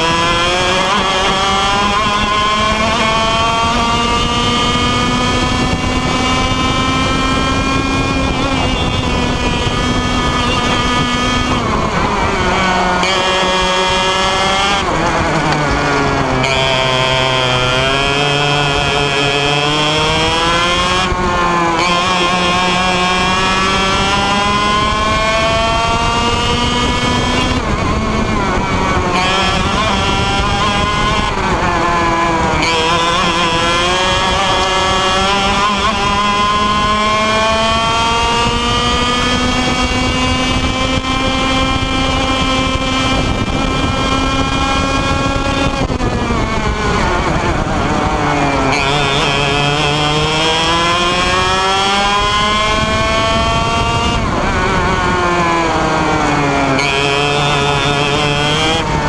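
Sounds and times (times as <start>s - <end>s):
kart engine at full throttle: 0.0s - 59.0s.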